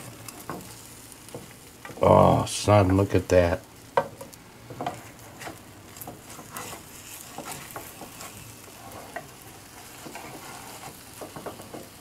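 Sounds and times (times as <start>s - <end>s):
spatula scraping and tapping pan: 0.0s - 2.0s, 3.8s - 12.0s
omelet sizzling in a pan: 0.0s - 12.0s.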